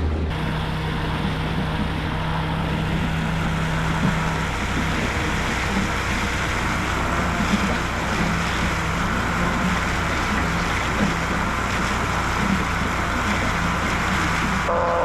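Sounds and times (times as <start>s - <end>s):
constant rushing noise: 0.0s - 14.8s
small motor humming: 0.3s - 14.8s.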